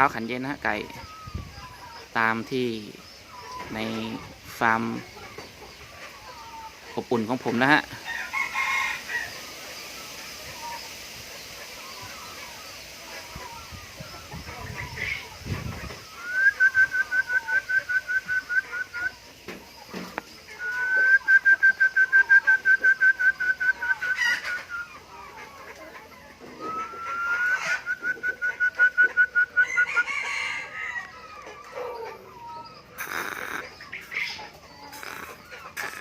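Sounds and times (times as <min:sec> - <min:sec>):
chicken calling: 0:00.0 - 0:36.0.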